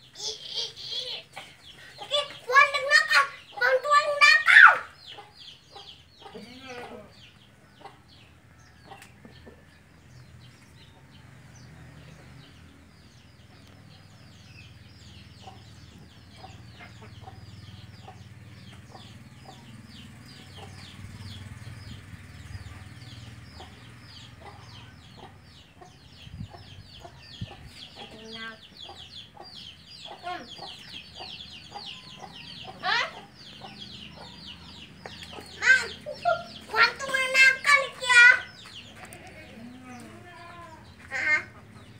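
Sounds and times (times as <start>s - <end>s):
chickens clucking and chirping: 0.0s - 41.9s.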